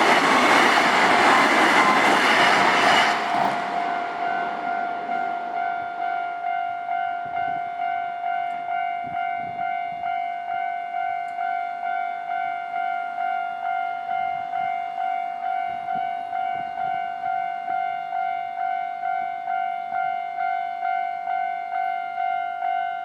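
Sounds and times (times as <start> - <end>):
level crossing alarm bell ringing: 0.0 - 23.0.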